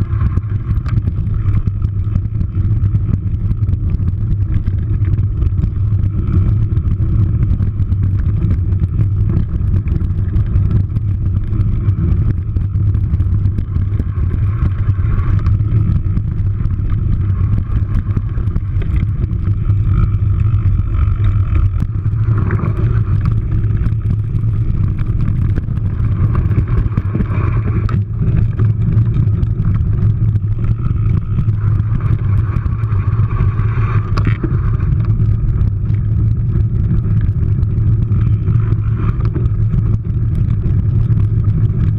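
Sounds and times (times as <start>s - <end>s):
bike tyres rolling over dirt: 0.0s - 41.9s
wind rumble on microphone: 0.0s - 41.9s.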